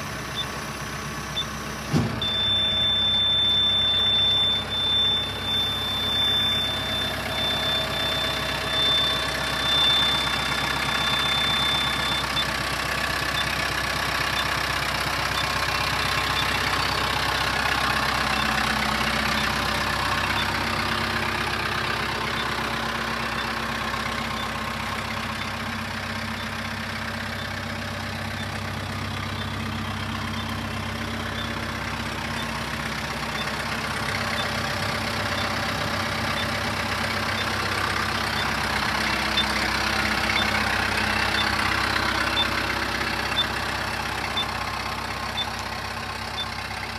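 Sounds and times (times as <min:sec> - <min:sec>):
tractor diesel engine idling: 0:00.0 - 0:46.9.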